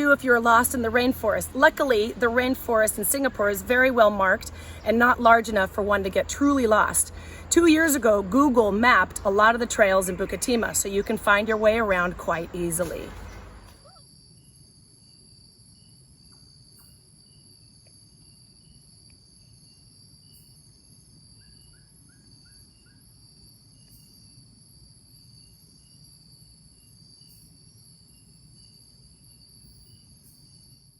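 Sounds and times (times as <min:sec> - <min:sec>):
insects droning: 0:00.0 - 0:30.9.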